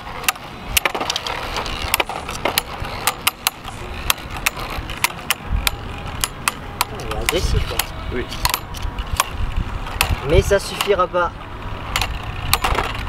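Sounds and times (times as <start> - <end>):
whirr of spinning tops: 0.0 - 13.0.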